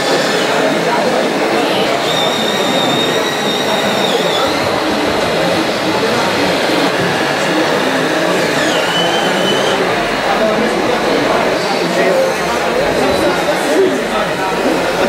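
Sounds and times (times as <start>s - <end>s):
machine noise: 0.0s - 15.0s
many voices: 0.0s - 15.0s.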